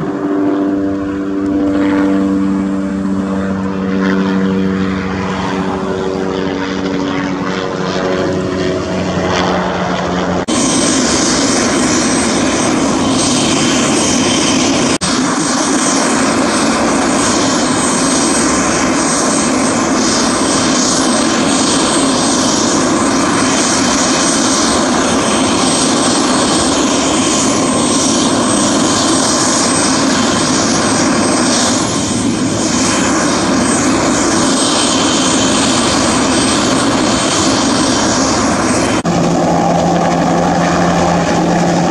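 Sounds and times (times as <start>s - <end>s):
helicopter flying overhead: 0.0s - 41.9s
loud helicopter engine close by: 0.0s - 41.9s.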